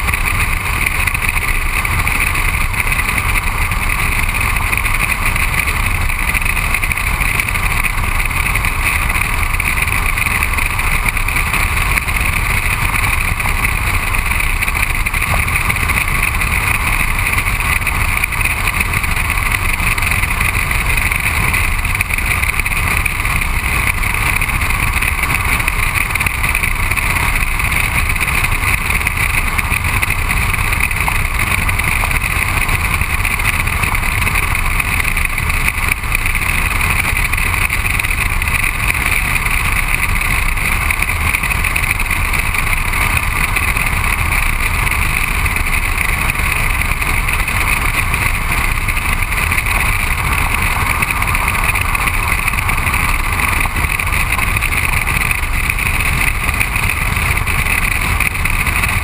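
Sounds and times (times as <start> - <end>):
tyre road noise: 0.0 - 59.0.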